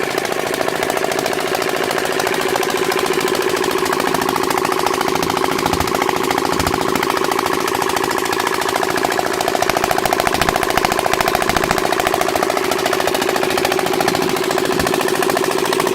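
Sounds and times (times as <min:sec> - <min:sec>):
diesel engine knocking: 0:00.0 - 0:15.9.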